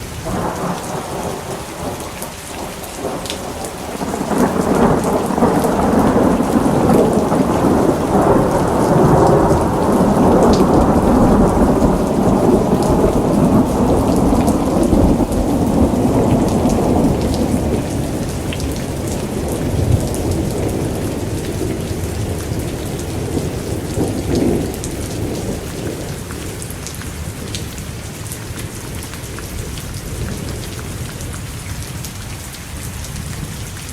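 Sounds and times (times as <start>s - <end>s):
steady rain falling: 0.0s - 33.9s
thunder rumbling: 0.2s - 27.5s.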